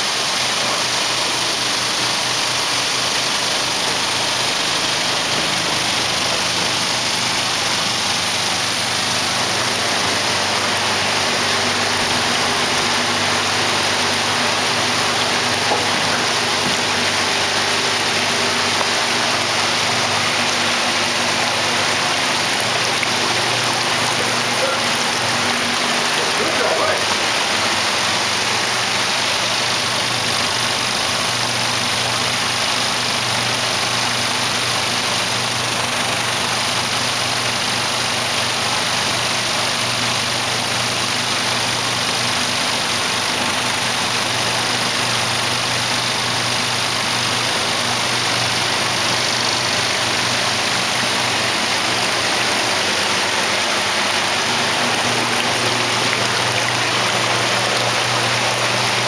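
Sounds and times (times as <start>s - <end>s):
water rushing and churning: 0.0s - 59.0s
low machine hum: 0.1s - 59.0s.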